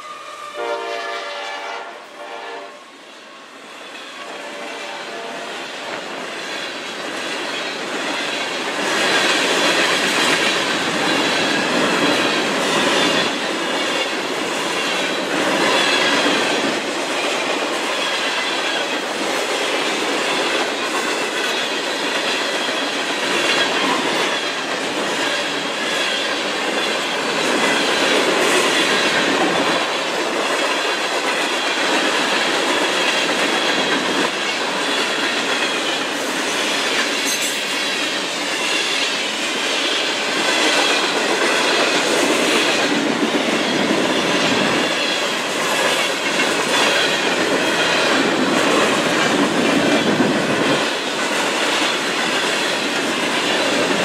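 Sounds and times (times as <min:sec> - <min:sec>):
freight train wheels rolling on rails: 0:00.0 - 0:54.0.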